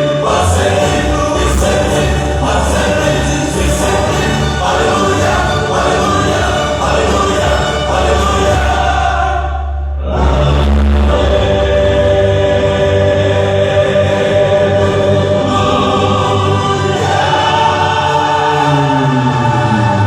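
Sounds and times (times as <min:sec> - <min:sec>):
vocal quartets singing in harmony: 0:00.0 - 0:20.0.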